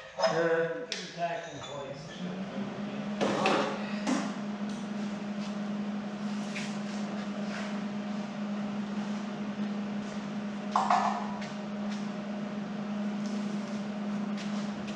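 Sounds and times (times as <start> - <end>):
machine humming: 2.1 - 14.9.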